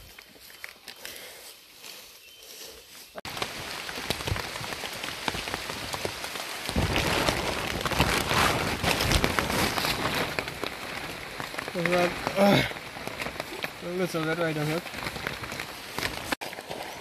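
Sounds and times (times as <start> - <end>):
rain falling: 3.2 - 17.0.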